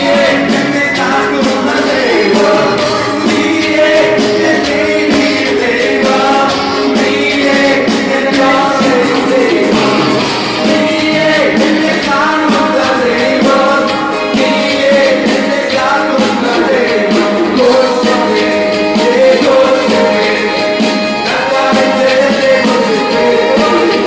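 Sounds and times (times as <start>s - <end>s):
keyboard: 0.0s - 24.0s
percussion hits: 0.0s - 24.0s
rhythm section: 0.0s - 24.0s
singers: 0.0s - 24.0s.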